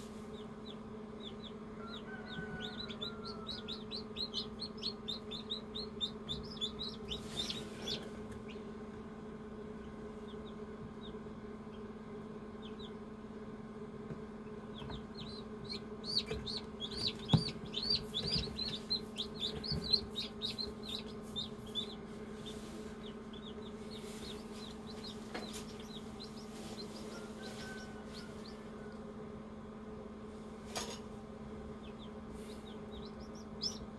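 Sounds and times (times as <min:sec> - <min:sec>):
chicks peeping: 0:00.0 - 0:29.3, 0:31.3 - 0:33.9
incubator hum: 0:00.0 - 0:33.9.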